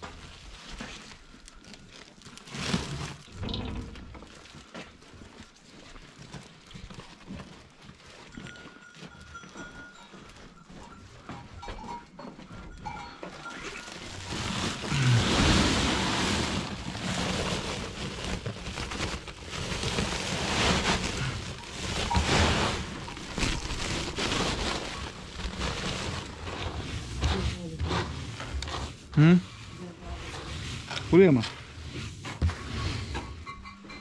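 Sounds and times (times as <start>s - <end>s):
plastic sack rustling: 0.0s - 8.4s, 12.9s - 33.2s.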